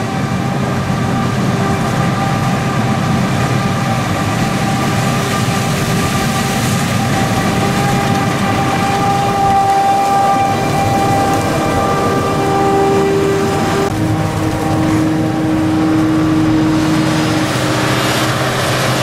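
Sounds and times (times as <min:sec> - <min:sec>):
deep engine rumble: 0:00.0 - 0:19.0
high steady machine whine: 0:00.0 - 0:19.0.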